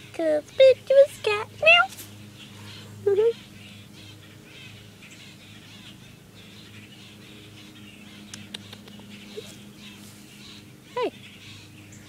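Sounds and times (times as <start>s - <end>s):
faint bird chirping: 0.0s - 12.0s
steady low hum: 0.0s - 12.0s.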